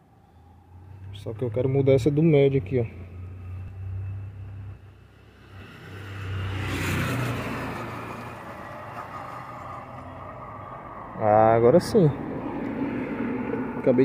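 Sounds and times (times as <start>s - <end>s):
motor vehicle passing: 0.3s - 14.0s.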